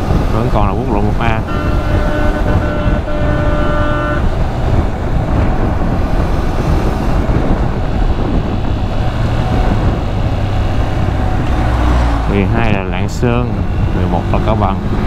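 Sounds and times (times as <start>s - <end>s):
wind rushing over microphone: 0.0s - 15.0s
motorcycle engine cruising: 1.4s - 15.0s.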